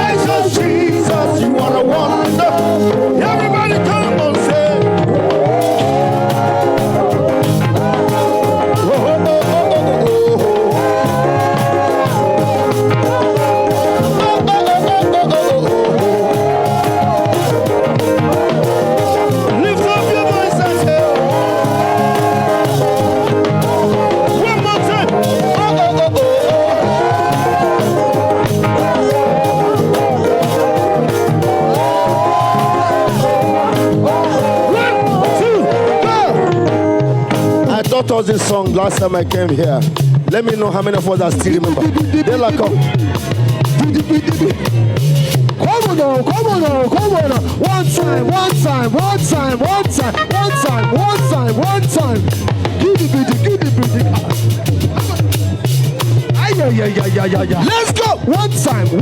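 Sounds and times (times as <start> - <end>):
band playing upbeat gospel song: 0.0 - 59.0
bass line: 0.0 - 59.0
steady drum beat: 0.0 - 59.0.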